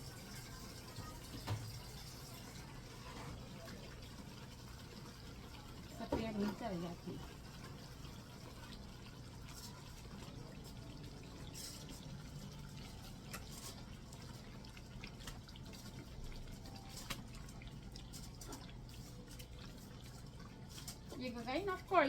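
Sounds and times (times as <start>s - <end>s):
water dripping and trickling: 0.0s - 22.0s.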